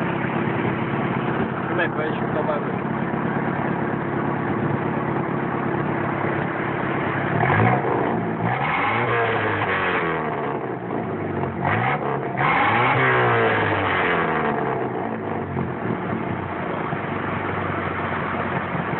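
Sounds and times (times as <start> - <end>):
car engine revving and idling: 0.0 - 18.9.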